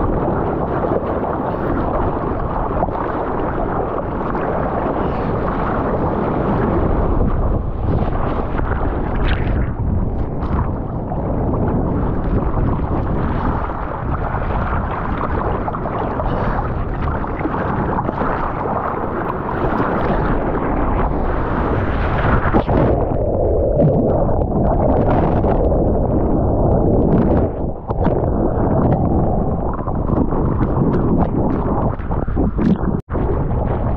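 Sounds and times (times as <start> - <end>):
ocean water sloshing and rushing: 0.0 - 33.9
wind buffeting microphone: 0.0 - 33.9.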